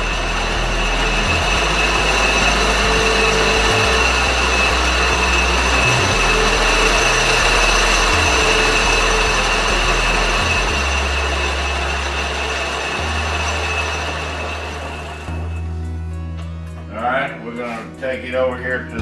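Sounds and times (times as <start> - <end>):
lathe motor whirring: 0.0 - 16.0.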